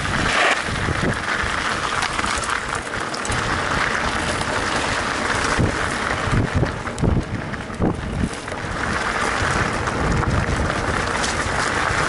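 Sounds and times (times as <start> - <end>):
bike tyre noise: 0.0 - 12.0
low bumps of bike: 0.0 - 12.0
wind over microphone: 0.0 - 12.0.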